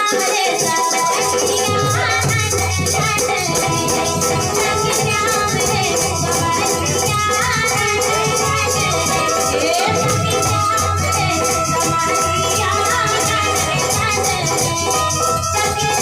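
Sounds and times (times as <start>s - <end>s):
rattling percussion beat: 0.0s - 16.0s
folk music: 1.5s - 16.0s.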